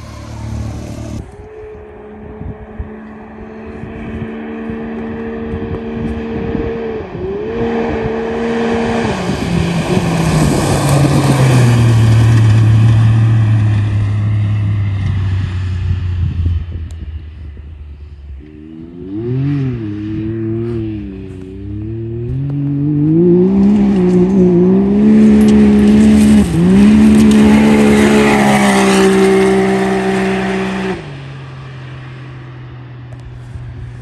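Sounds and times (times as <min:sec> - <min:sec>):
engine running at high revs: 0:00.0 - 0:32.0.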